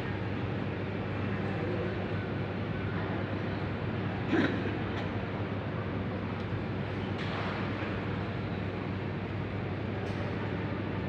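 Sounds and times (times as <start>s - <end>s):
airport background rumble: 0.0s - 11.0s.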